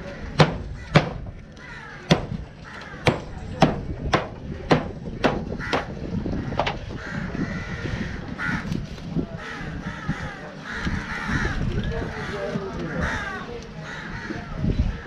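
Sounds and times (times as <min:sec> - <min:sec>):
crows cawing: 0:00.0 - 0:03.4, 0:04.9 - 0:08.8, 0:09.4 - 0:15.0.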